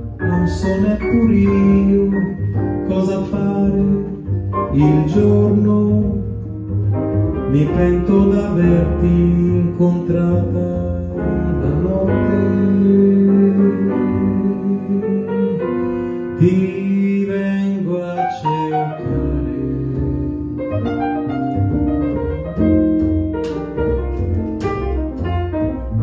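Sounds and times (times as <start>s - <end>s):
double bass deep notes: 0.0s - 26.0s
jazz trio playing slow ballad: 0.0s - 26.0s.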